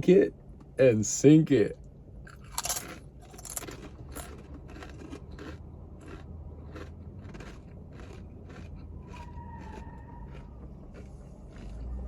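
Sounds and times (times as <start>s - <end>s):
crunching tortilla chips: 2.3s - 12.0s.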